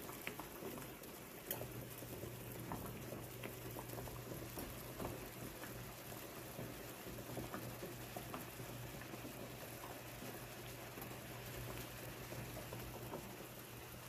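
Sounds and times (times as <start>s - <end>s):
water boiling in frying pan: 0.0s - 14.0s.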